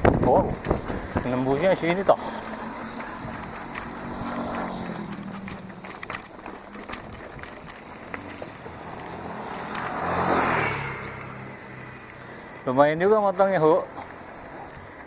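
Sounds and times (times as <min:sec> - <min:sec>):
sharp clicks and rattles: 0:00.0 - 0:14.1
vehicle engine passing: 0:00.0 - 0:14.6.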